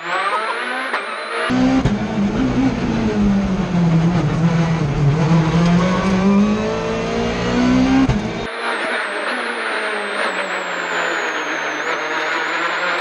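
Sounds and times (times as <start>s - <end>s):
rally car engine at speed: 0.0s - 13.0s.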